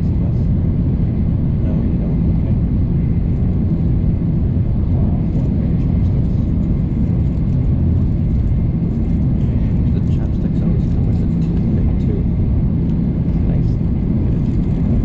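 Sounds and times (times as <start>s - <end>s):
train cabin low rumble: 0.0s - 15.0s.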